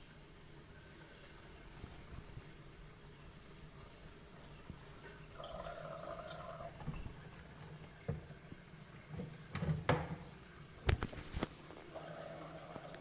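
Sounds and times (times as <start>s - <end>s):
water running in washing machine: 0.0s - 13.0s.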